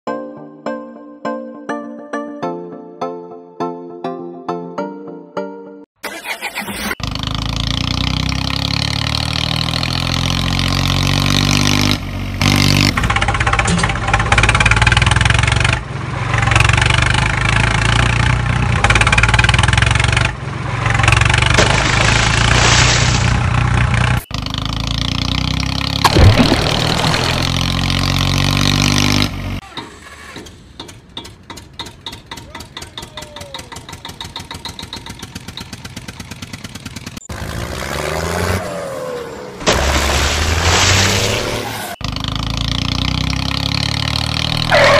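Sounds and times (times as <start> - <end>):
tractor engine revving and idling: 6.0 - 44.9.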